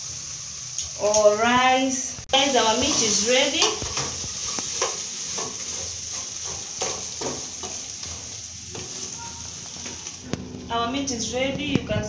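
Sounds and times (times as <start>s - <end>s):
beef sizzling in a pot: 0.0s - 10.4s.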